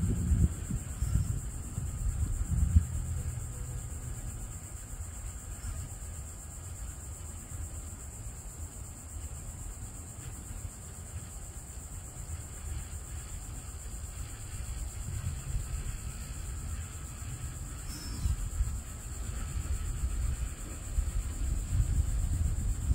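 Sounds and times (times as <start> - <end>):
insects buzzing: 0.0 - 22.9
wind rumble on microphone: 0.0 - 22.9.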